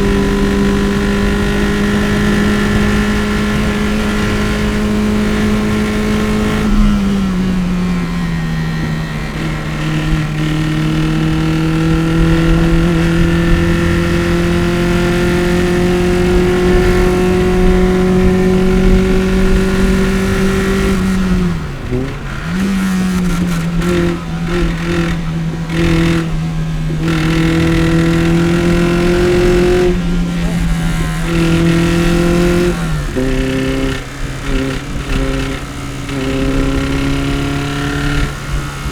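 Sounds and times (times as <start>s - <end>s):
car engine at full load: 0.0s - 38.9s.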